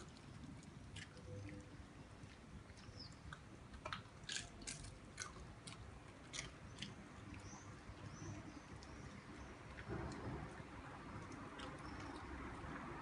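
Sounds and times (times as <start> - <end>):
dog chewing crunchy snack: 0.0 - 12.7.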